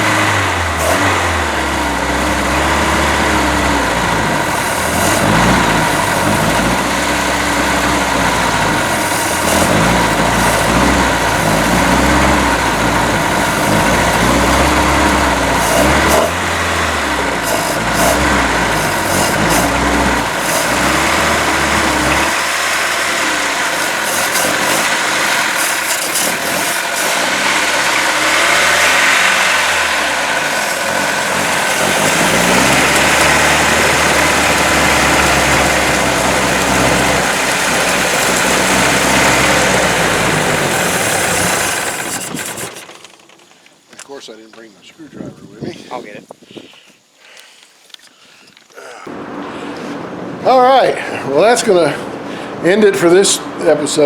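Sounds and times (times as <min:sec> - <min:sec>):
boat engine running rough: 0:00.0 - 0:43.3.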